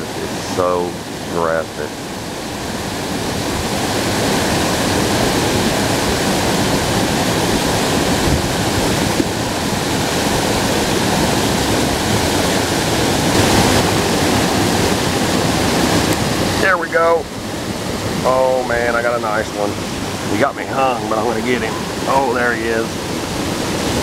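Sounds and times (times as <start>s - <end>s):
water pouring over waterfall: 0.0s - 24.0s.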